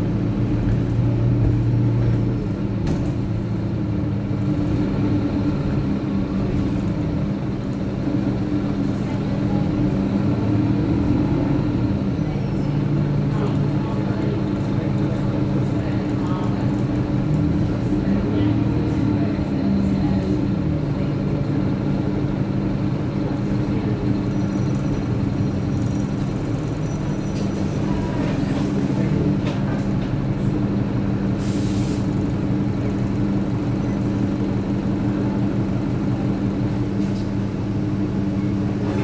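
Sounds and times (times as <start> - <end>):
bus engine droning: 0.0 - 39.0.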